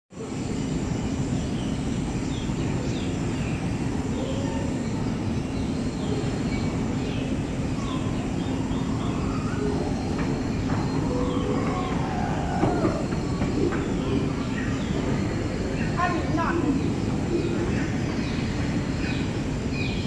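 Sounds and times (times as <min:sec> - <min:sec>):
steady rushing noise: 0:00.3 - 0:20.0
bird chirps: 0:01.4 - 0:20.0.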